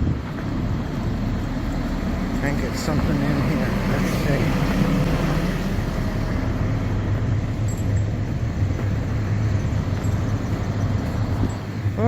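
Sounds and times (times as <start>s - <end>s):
engine humming: 0.0s - 12.0s
street traffic noise: 0.0s - 12.0s.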